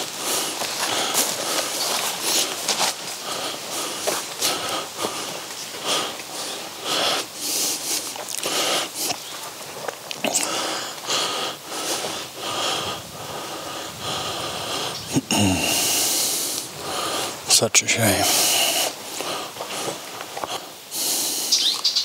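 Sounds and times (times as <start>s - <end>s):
person breathing: 0.0s - 9.2s, 10.2s - 21.6s.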